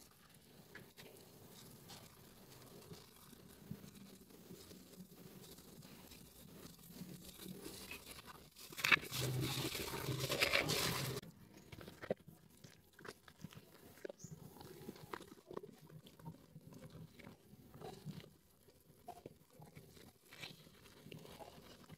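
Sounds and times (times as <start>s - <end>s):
hands squeezing wet soap paste: 0.0s - 21.9s.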